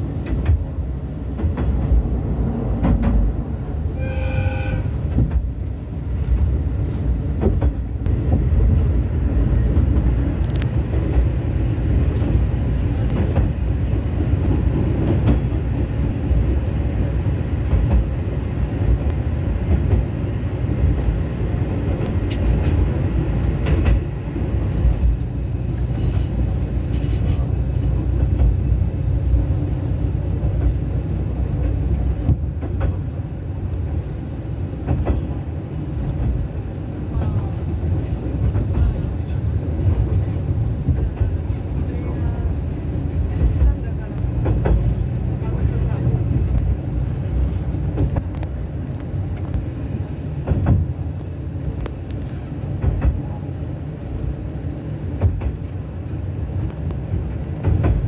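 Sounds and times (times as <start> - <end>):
railcar engine and wheels rumbling: 0.0 - 58.0.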